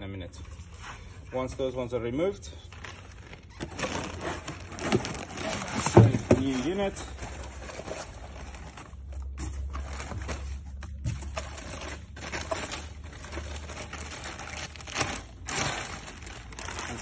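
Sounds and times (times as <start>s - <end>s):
foam and plastic bag rustling: 0.2s - 17.0s.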